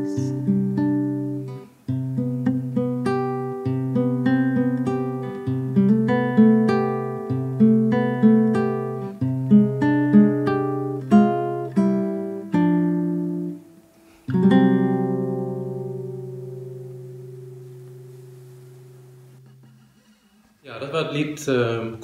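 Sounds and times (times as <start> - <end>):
classical guitar playing: 0.0 - 20.6.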